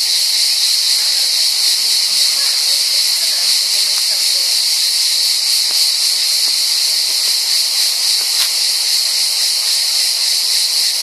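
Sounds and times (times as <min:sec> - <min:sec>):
loud high-pitched hiss: 0:00.0 - 0:11.0.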